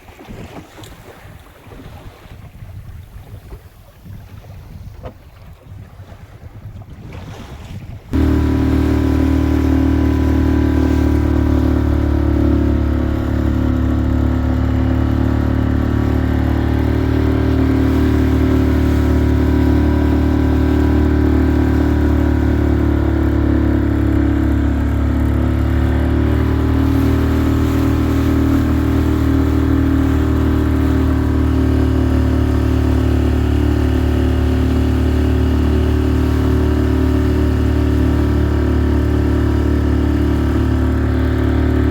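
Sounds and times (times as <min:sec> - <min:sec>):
small boat engine droning: 0:03.4 - 0:41.9.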